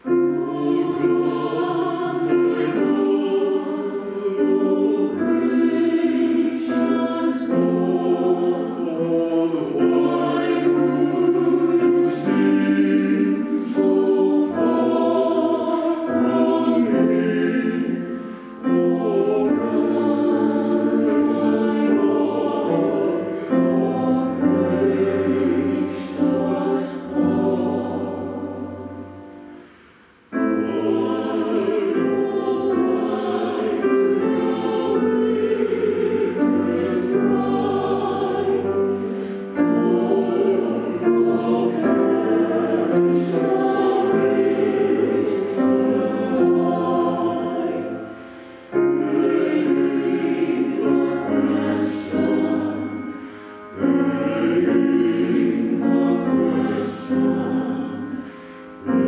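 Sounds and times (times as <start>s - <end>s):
choir singing a slow hymn: 0.0s - 59.0s.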